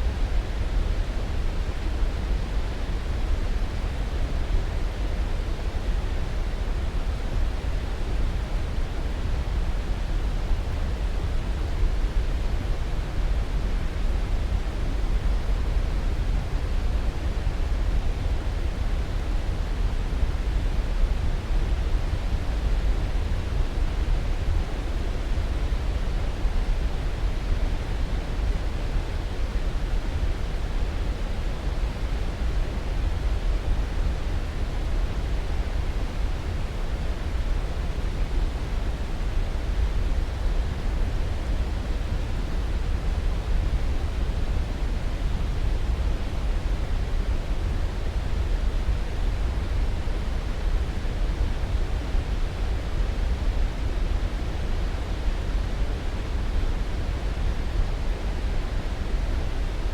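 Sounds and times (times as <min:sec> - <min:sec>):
pink noise with low rumble: 0:00.0 - 0:59.9.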